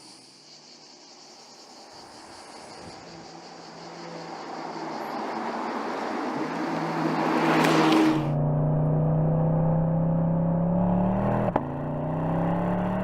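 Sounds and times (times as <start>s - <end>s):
car passing at speed: 2.5s - 13.0s.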